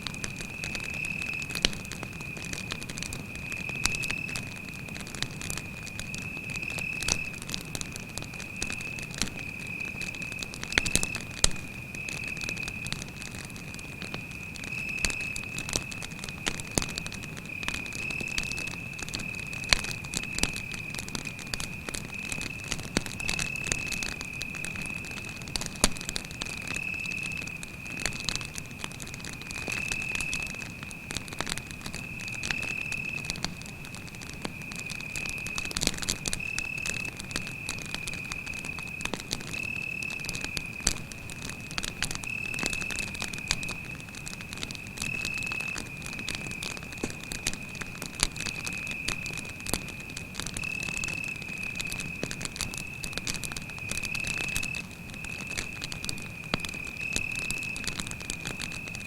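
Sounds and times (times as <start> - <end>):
campfire crackling and popping: 0.0 - 59.0
cricket trilling: 0.3 - 59.0.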